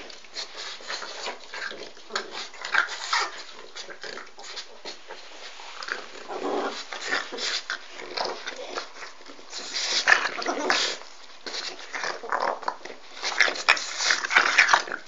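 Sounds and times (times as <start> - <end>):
dogs grunting and growling: 0.0 - 15.0.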